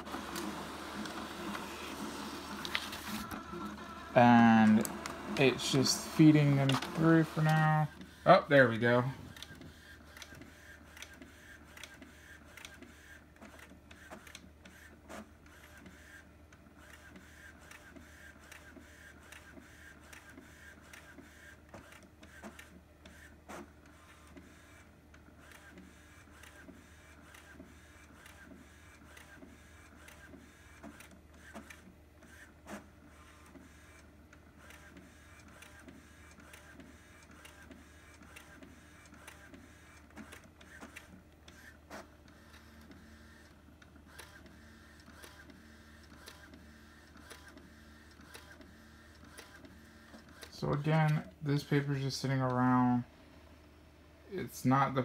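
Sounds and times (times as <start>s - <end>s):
inkjet printer printing: 0.0s - 53.0s.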